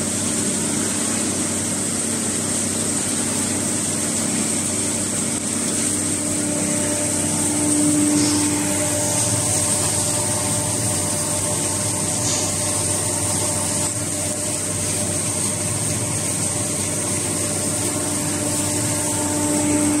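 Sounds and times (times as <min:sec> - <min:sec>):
crusher machine drone with whine: 0:00.0 - 0:20.0.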